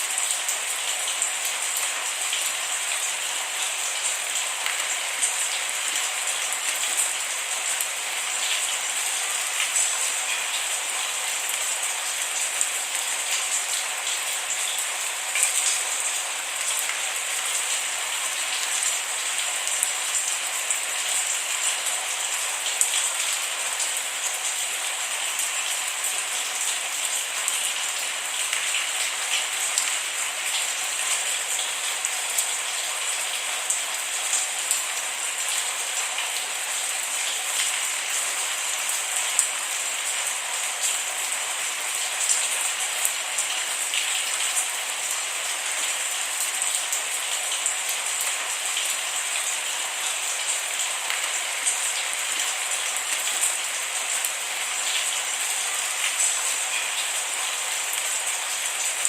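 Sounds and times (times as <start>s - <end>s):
rain drops ticking: 0.0s - 59.0s
steady rain: 0.0s - 59.0s.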